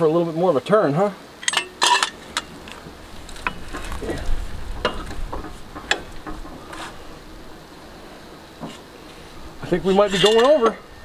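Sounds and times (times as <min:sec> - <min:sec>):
handling noise: 0:01.4 - 0:11.0.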